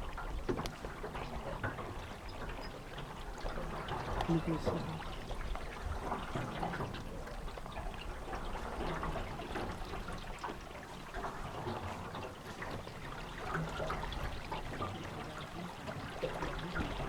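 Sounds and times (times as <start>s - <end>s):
water lapping around canoe: 0.0s - 17.0s.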